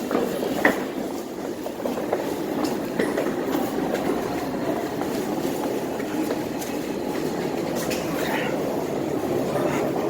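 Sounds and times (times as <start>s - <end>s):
passenger train rumbling: 0.0s - 10.0s
train clicks and rattles: 0.0s - 10.0s.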